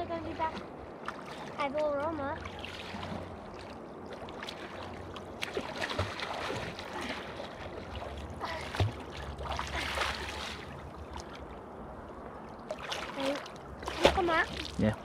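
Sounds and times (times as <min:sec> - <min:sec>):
river water splashing: 0:00.0 - 0:15.0.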